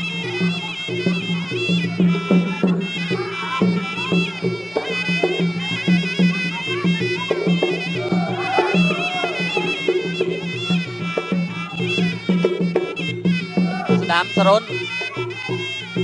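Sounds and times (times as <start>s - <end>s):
reed oboe ornamented melody: 0.0s - 16.0s
quick drum beat: 0.3s - 16.0s.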